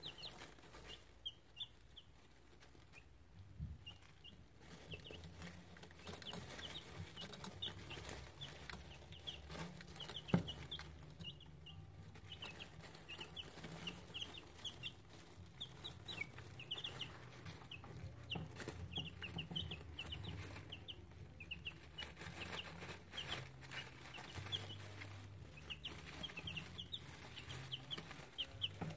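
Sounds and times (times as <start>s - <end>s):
chicks peeping: 0.0s - 28.9s.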